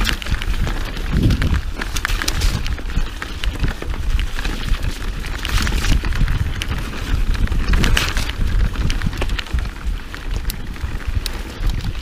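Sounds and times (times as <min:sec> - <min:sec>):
bike rattling and clicking: 0:00.0 - 0:12.0
tyres on dirt: 0:00.0 - 0:12.0
wind rumbling on microphone: 0:00.0 - 0:12.0.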